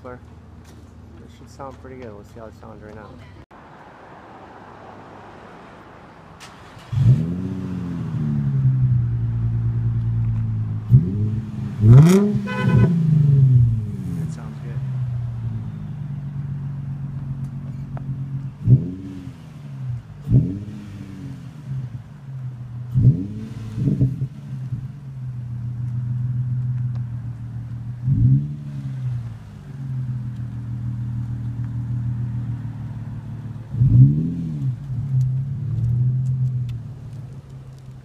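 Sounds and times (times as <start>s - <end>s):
car engine idling and revving: 2.9s - 38.0s.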